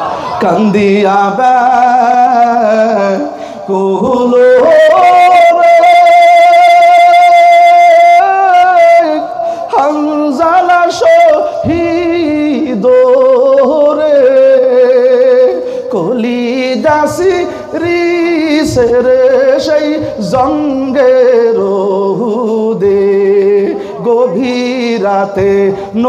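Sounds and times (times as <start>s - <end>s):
man singing mournfully: 0.1s - 26.0s.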